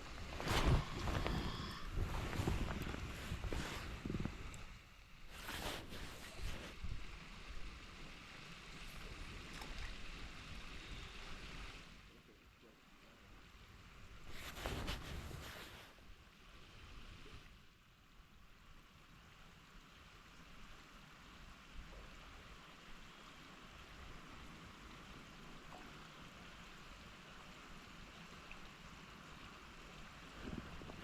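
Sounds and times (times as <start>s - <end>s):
faint rush of water: 0.0s - 31.0s.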